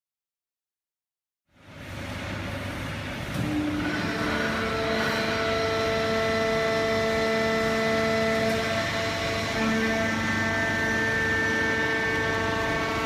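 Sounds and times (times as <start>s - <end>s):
steady machine whine: 1.5s - 13.0s.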